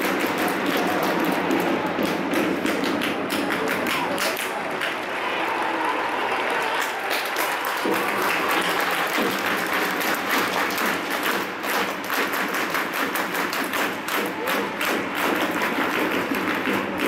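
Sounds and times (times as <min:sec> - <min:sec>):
crowd clapping: 0:00.0 - 0:17.0.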